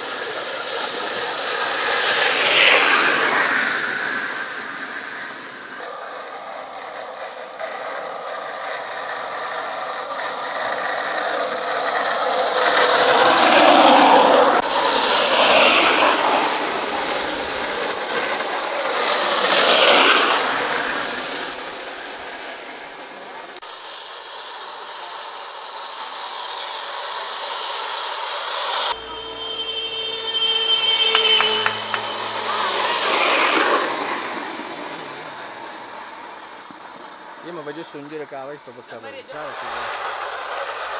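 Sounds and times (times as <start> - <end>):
carts rolling on asphalt: 0.0 - 40.9.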